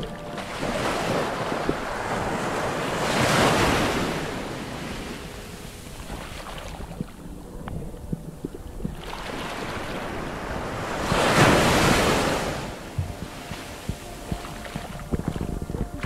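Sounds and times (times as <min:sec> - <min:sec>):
muffled underwater water rush: 0:00.0 - 0:16.0.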